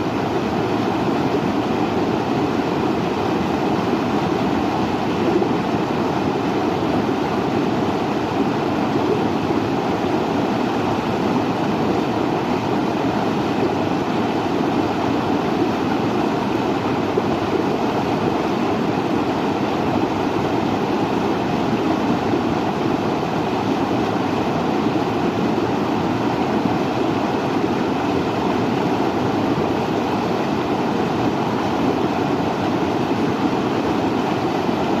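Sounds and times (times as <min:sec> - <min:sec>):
water rushing: 0:00.0 - 0:35.0.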